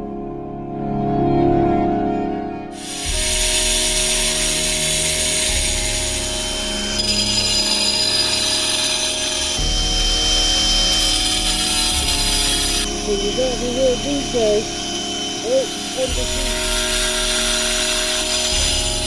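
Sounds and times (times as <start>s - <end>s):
angle grinder grinding stone: 2.8s - 19.0s.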